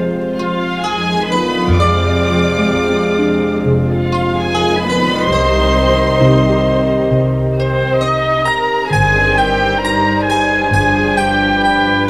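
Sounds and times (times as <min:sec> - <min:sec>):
held instrumental notes: 0:00.0 - 0:12.0
low bass line: 0:00.0 - 0:12.0.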